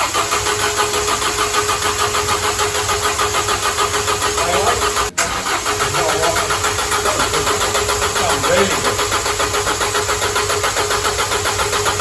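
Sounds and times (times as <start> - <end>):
starter motor cranking engine: 0.0 - 12.0.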